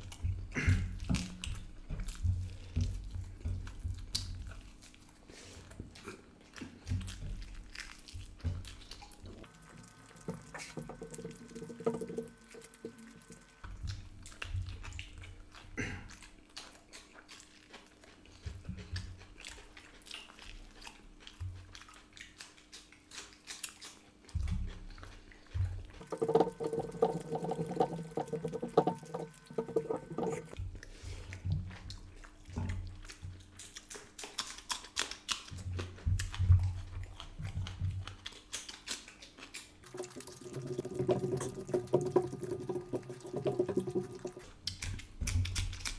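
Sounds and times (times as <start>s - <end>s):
chewing and lip smacking: 0.0s - 45.9s.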